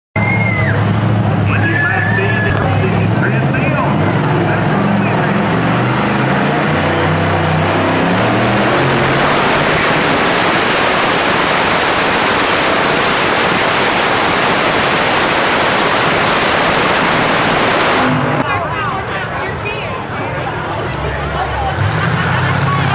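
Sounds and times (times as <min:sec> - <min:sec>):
truck engine running hard: 0:00.2 - 0:22.9.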